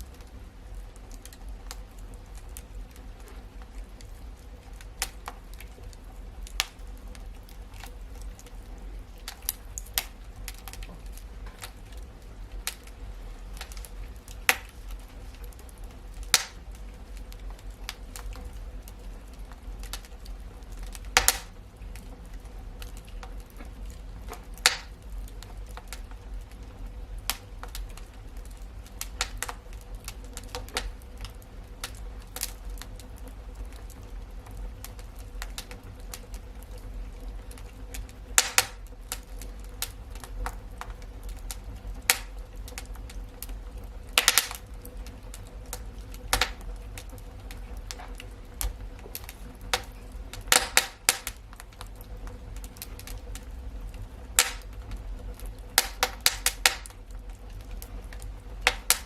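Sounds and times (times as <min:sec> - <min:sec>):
fire popping and snapping: 0:00.0 - 0:59.0
wood fire crackling: 0:00.0 - 0:59.0.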